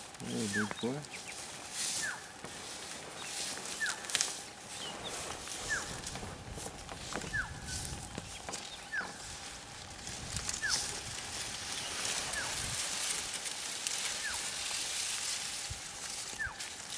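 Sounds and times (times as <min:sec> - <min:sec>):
steady outdoor hiss: 0:00.0 - 0:16.9.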